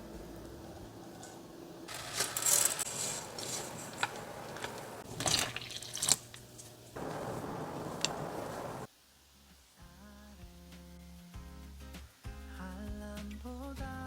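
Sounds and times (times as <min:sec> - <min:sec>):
cooking noise hiss: 0:00.0 - 0:13.0.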